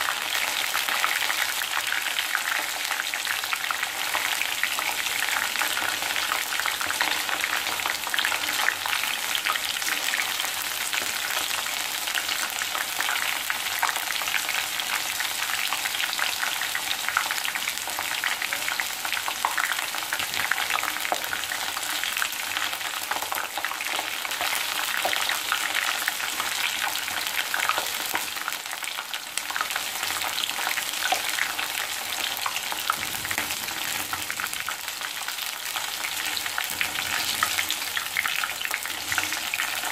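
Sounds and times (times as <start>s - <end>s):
batter deep-frying in hot oil: 0.0s - 39.9s.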